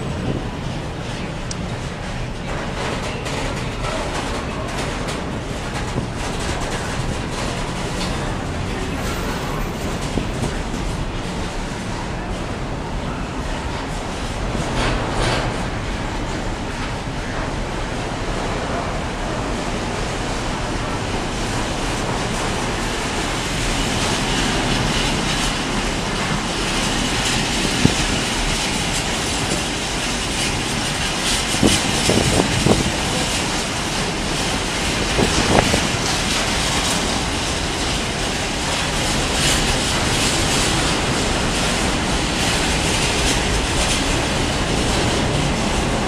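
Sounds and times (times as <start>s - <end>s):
train wheels rattling on rail: 0.0s - 46.0s.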